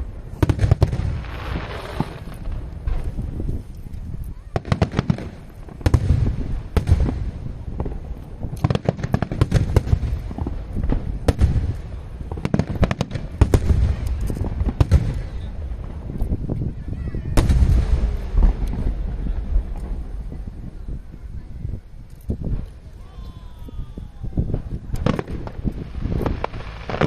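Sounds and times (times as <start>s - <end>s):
low rumble of booms: 0.0s - 23.0s, 23.9s - 27.0s
fireworks bangs: 0.0s - 27.0s.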